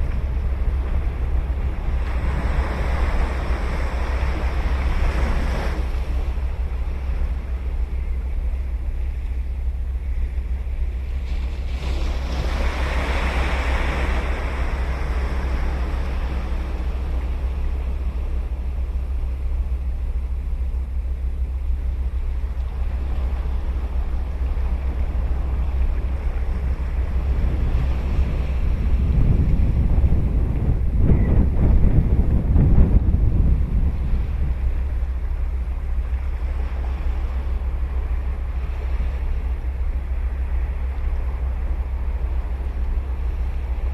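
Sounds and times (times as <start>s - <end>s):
sea waves breaking on a beach: 0.0s - 43.9s
wind rumble on microphone: 0.0s - 43.9s.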